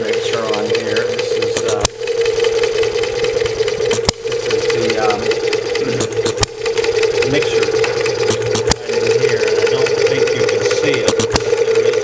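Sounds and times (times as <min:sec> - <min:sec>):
engine knock: 0:00.0 - 0:12.0
small engine ticking clatter: 0:00.0 - 0:12.0.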